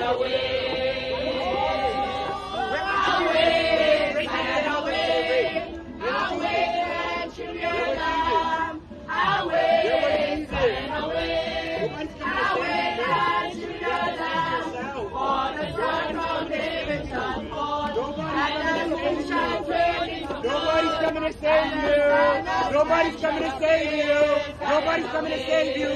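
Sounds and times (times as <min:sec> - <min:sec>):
group singing a church song: 0:00.0 - 0:25.9.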